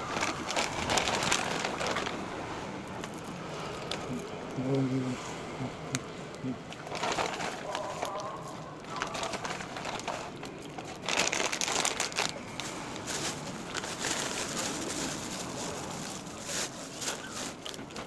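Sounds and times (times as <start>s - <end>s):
wrapper crinkling and rustling: 0.0s - 4.7s, 6.7s - 18.0s.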